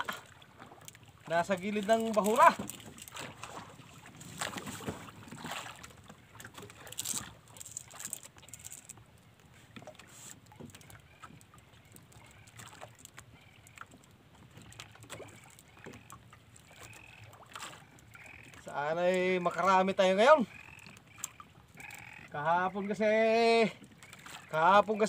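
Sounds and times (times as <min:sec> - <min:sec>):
water lapping against boat hull: 0:00.0 - 0:25.0.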